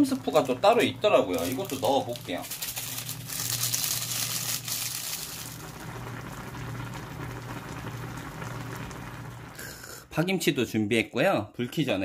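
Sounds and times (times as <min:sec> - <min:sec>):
pot boiling and bubbling: 0:00.0 - 0:10.4.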